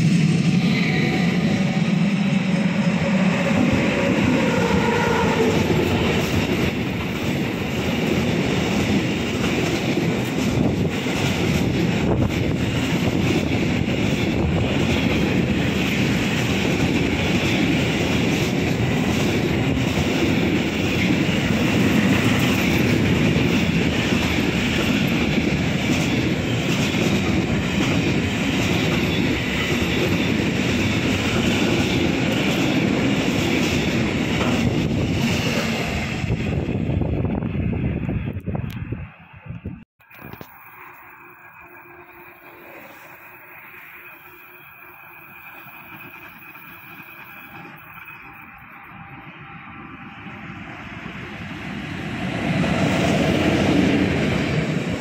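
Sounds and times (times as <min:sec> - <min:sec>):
train wheels rumbling and clattering: 0:00.0 - 0:55.0.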